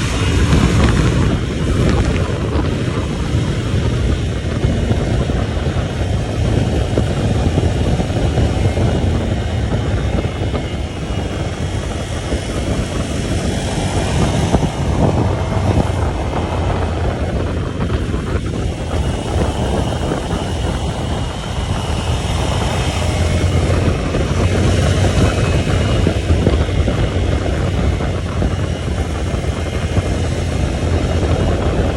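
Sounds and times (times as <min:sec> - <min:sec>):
motorcycle engine running: 0:00.0 - 0:31.9
wind rush on microphone: 0:00.0 - 0:31.9.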